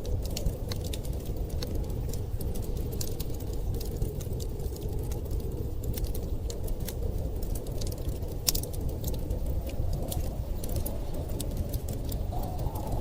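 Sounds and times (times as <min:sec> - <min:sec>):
blizzard wind rumbling: 0:00.0 - 0:13.0
wood fire crackling and popping: 0:00.0 - 0:13.0.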